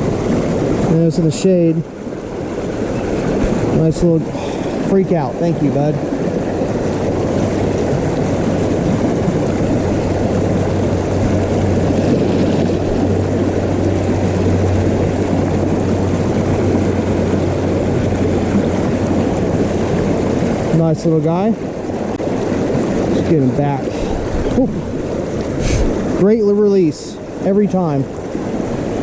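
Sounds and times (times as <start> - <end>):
creek water flowing: 0.0 - 29.0
low steady hum: 0.0 - 29.0.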